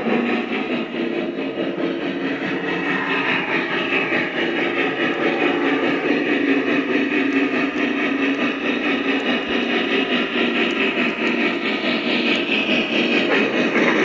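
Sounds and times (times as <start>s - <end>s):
model train steam engine sound effects: 0.0s - 14.0s.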